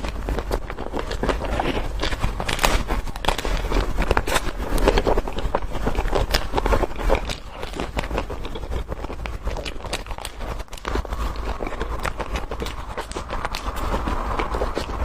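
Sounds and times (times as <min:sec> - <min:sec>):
crunching and chewing sweets: 0:00.0 - 0:15.0.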